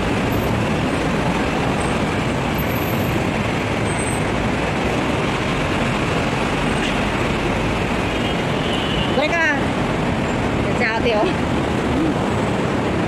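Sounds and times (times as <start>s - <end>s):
city road traffic: 0.0s - 13.0s.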